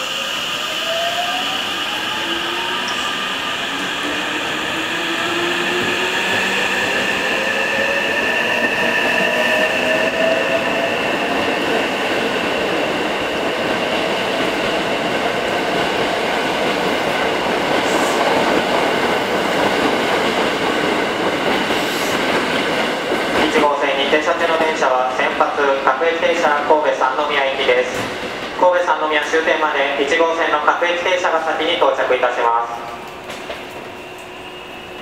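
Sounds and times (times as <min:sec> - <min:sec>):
train wheels rolling on rail: 0:00.0 - 0:35.0.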